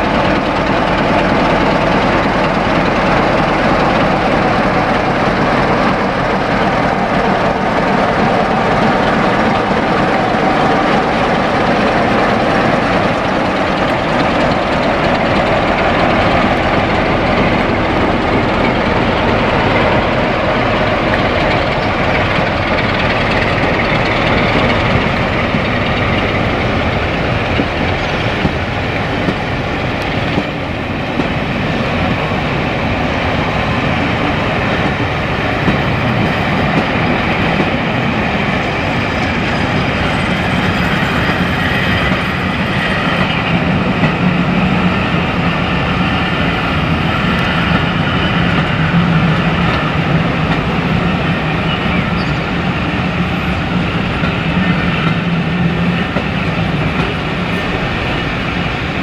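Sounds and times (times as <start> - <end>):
diesel locomotive engine running: 0.0 - 59.0
train wheels rolling on track: 0.0 - 59.0.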